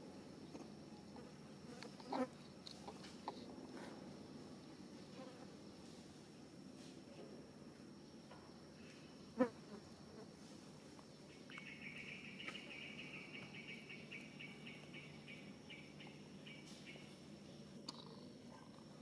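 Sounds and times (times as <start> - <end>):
cricket chirping trill: 0.0 - 19.0.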